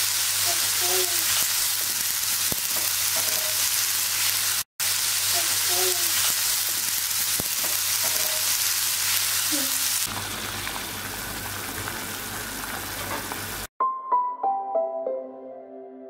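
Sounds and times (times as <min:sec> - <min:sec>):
vegetables sizzling in a frying pan: 0:00.0 - 0:13.7.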